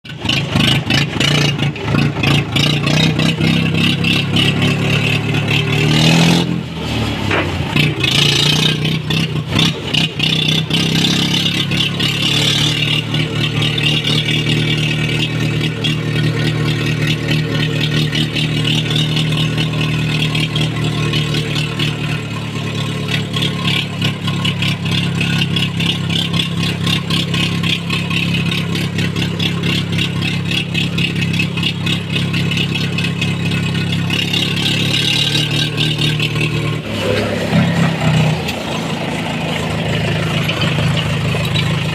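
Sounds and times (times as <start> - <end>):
tractor diesel engine revving: 0.0 - 41.9.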